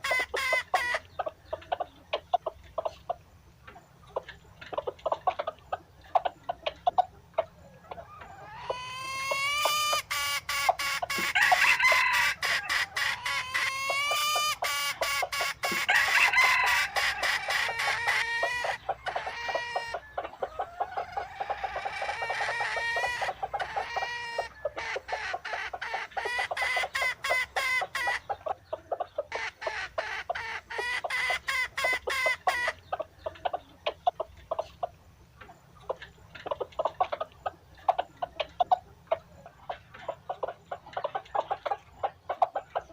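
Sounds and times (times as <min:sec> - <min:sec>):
chickens clucking: 0:00.0 - 0:42.9
chickens crowing: 0:00.0 - 0:42.9.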